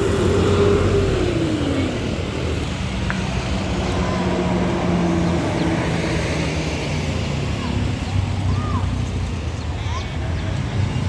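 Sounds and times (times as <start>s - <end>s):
bus engine rumbling past: 0.0s - 11.0s.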